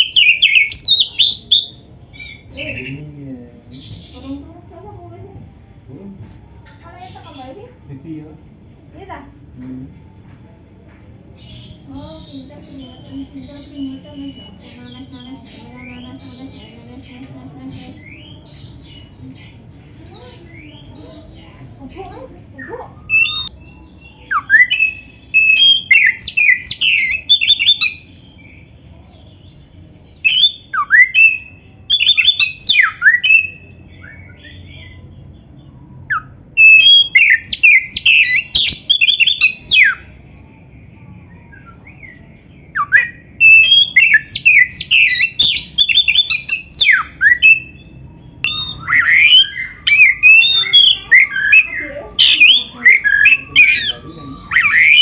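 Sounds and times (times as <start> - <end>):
songbird whistling and chattering: 0.0 - 4.5, 11.4 - 55.0.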